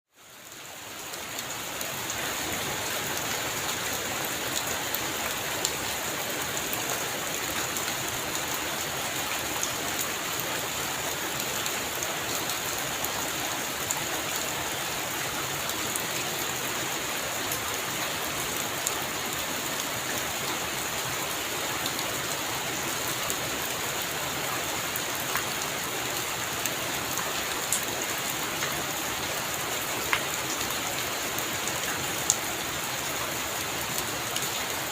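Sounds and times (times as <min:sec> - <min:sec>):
heavy rain on a roof: 0:00.1 - 0:34.9.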